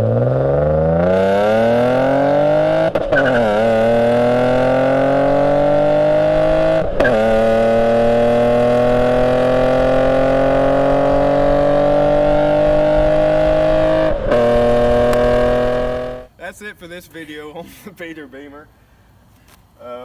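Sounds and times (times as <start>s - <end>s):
car engine accelerating: 0.0s - 16.3s.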